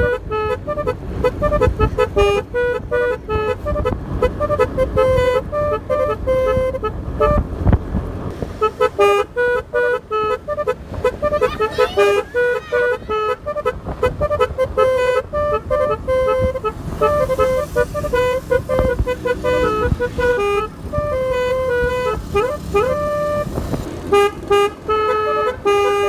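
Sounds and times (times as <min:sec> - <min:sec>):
horn playing a fast tune: 0:00.0 - 0:07.4, 0:08.6 - 0:26.0.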